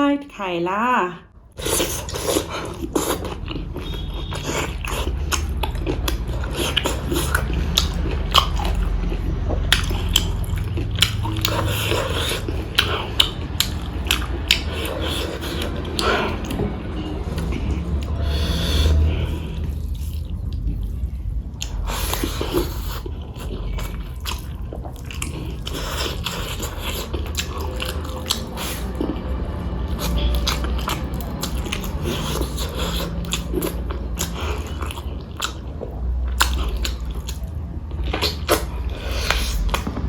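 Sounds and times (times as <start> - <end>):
person chewing crunchy food: 1.5 - 40.0.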